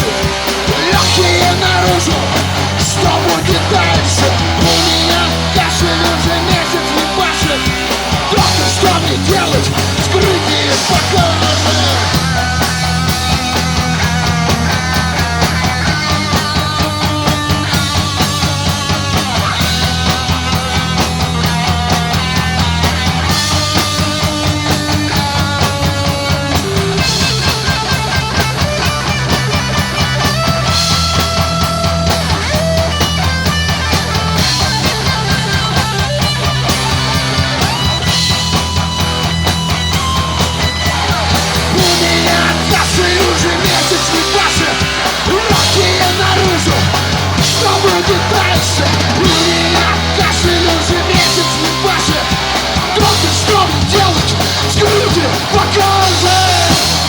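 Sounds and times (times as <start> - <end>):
bass and drums: 0.0 - 57.0
electric guitar melody: 0.0 - 57.0.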